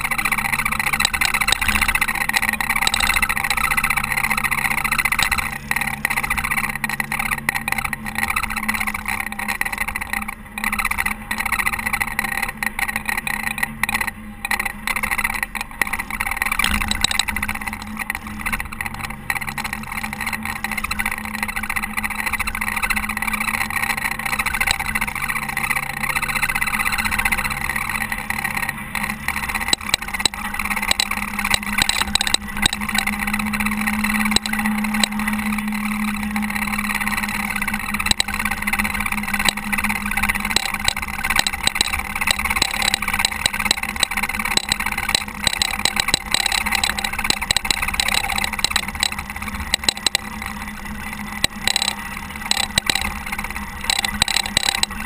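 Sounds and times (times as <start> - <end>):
diesel engine running: 0.0 - 55.0
small clicks and rattles: 0.0 - 55.0.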